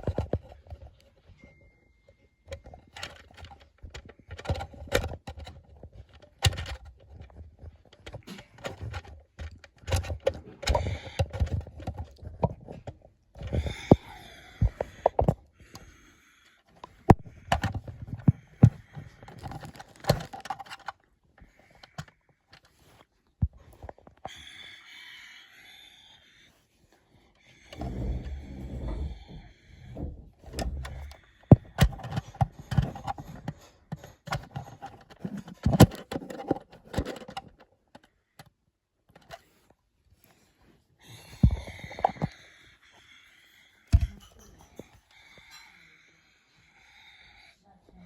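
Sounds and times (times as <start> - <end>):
object handling clicks and knocks: 0.0 - 16.0, 16.6 - 24.3, 27.7 - 40.4, 41.4 - 42.4, 43.9 - 45.0.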